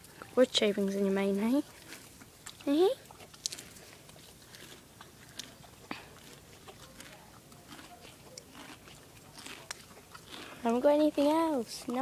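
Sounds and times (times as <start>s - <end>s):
pony chewing grass: 0.0s - 12.0s.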